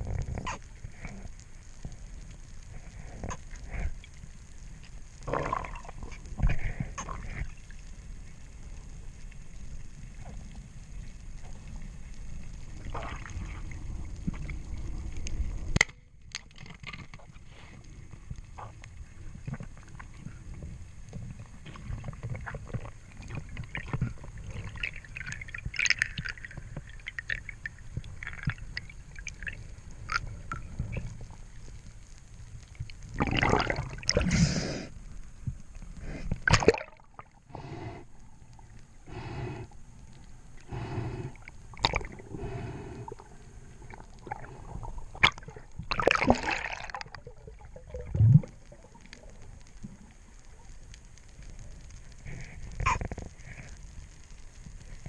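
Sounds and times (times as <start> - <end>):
water sloshing and gurgling: 4.8 - 50.8.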